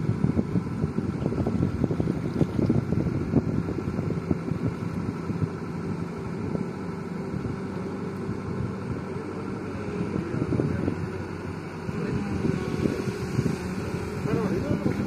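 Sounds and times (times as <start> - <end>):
excavator diesel engine running: 0.0 - 15.0
wind buffeting microphone: 0.0 - 15.0.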